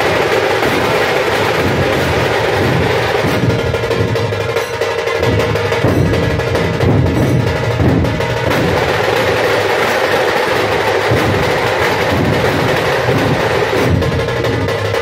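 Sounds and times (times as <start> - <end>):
large barrel drums beaten: 0.0 - 15.0.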